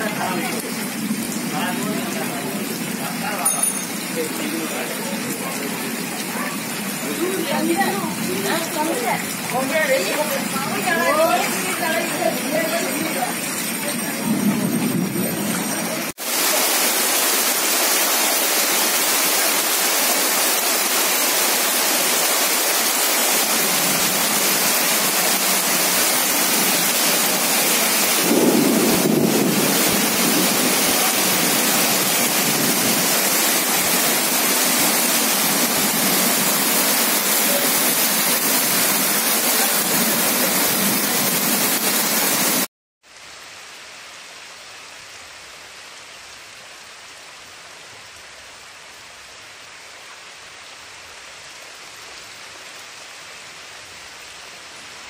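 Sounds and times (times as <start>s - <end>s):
heavy rain on a flooded street: 0.0s - 55.0s
rain falling onto standing water: 0.0s - 55.0s.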